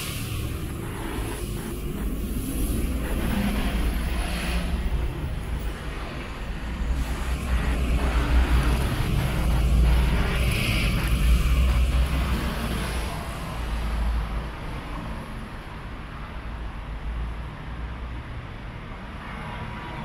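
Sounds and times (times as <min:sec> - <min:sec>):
cars driving past on wet road: 0:00.0 - 0:20.0
engine and road rumble: 0:00.0 - 0:20.0.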